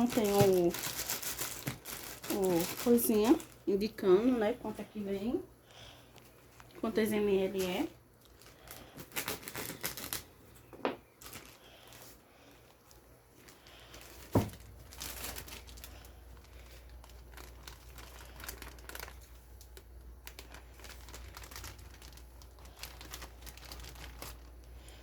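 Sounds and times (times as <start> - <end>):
packaging crinkling and rustling: 0.0 - 4.0, 6.2 - 25.0.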